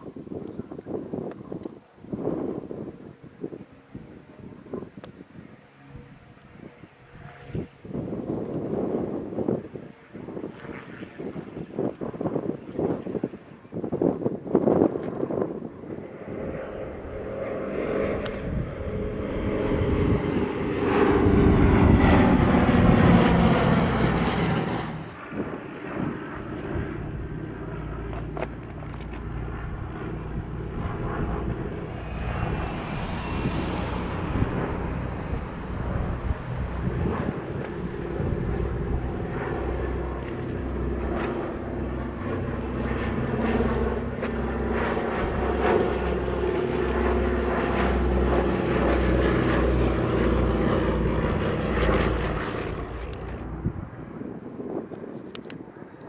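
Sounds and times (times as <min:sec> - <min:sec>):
aircraft engines whining: 0:00.0 - 0:56.0.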